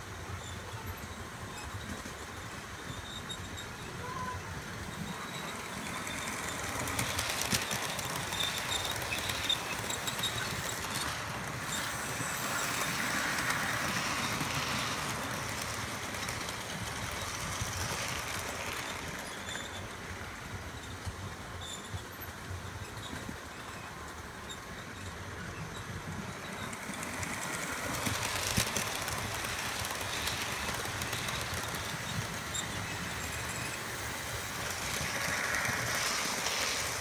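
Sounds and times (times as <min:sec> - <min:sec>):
model train rumbling past: 0:00.0 - 0:37.0
wheels clicking on rails: 0:00.0 - 0:37.0.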